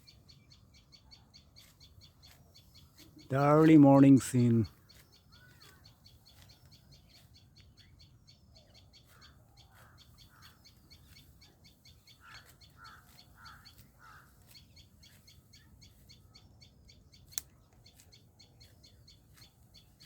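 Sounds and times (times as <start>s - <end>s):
faint birds calling: 0.0s - 20.0s.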